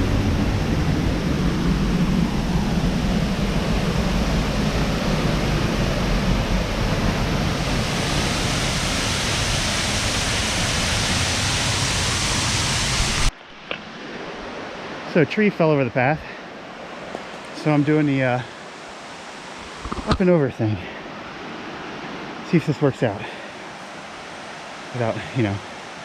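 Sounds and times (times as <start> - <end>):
waterfall rushing: 0.0 - 13.3, 16.8 - 26.0.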